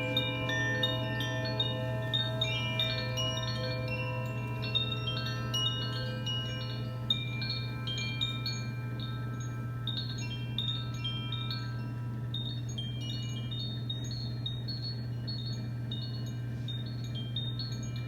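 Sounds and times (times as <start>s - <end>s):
metal chimes ringing: 0.0s - 18.0s
steady low hum: 0.0s - 18.0s.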